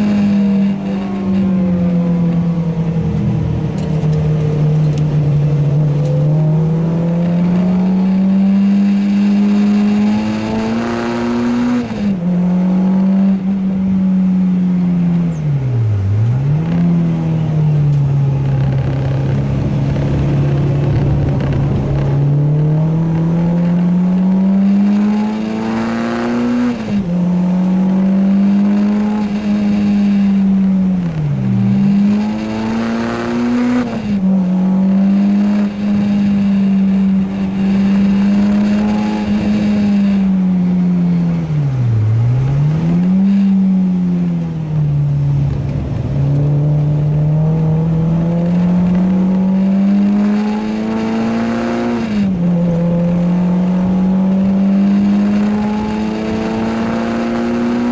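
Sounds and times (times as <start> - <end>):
car engine revving through gears: 0.0 - 57.9.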